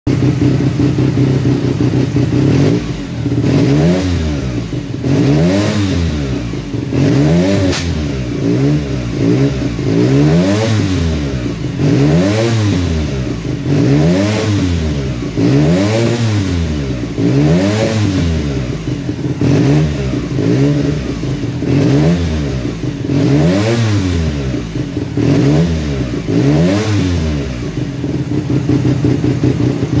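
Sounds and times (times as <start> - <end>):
rotary engine revving: 0.2 - 30.0.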